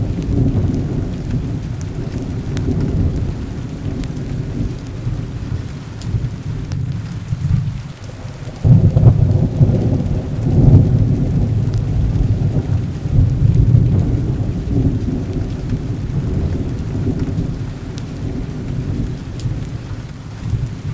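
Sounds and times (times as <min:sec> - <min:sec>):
heavy rain: 0:00.0 - 0:20.9
rolling thunder: 0:00.0 - 0:20.9.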